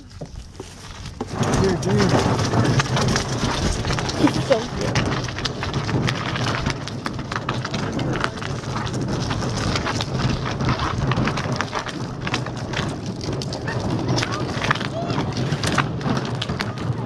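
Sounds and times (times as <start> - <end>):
carried gear clicking and rattling: 0.0 - 14.8
footsteps on gritty asphalt: 0.0 - 17.0.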